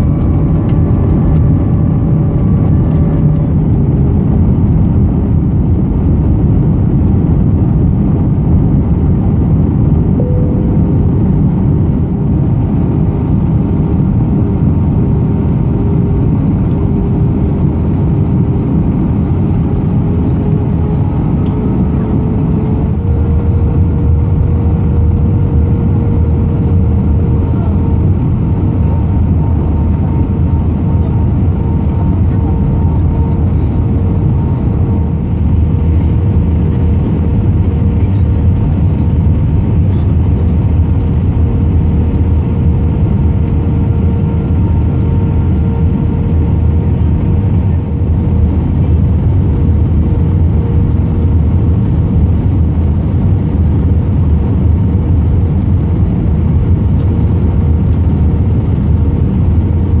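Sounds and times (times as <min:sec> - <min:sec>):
faint whine: 0:00.0 - 0:56.2
aircraft cabin engine drone: 0:00.0 - 1:00.0.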